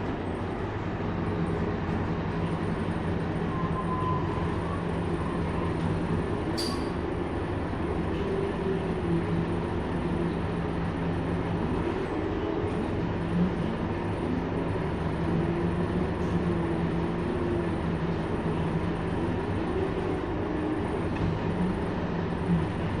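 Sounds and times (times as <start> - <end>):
bus engine humming: 0.0 - 23.0.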